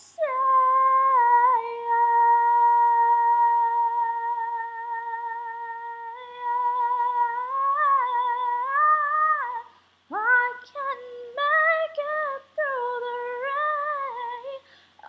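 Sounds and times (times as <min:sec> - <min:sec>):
woman singing a long note: 0:00.0 - 0:14.6.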